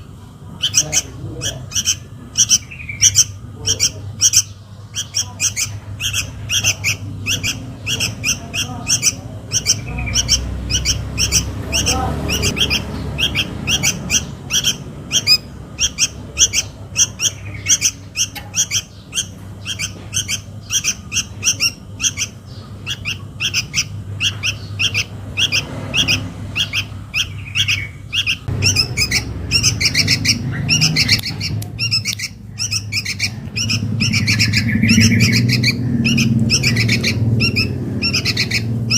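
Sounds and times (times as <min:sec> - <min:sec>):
steady low hum: 0:00.0 - 0:38.9
young bird chirping calls: 0:00.0 - 0:38.9.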